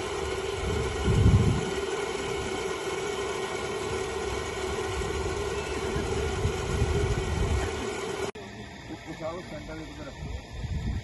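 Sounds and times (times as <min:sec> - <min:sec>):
engine-like drone: 0:00.0 - 0:11.0.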